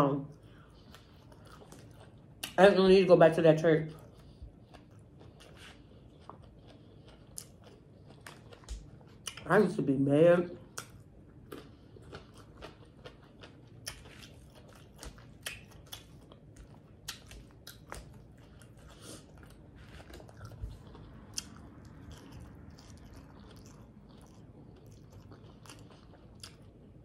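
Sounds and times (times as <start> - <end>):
chewing and mouth smacking: 0.3 - 2.7, 3.8 - 9.5, 10.6 - 27.0.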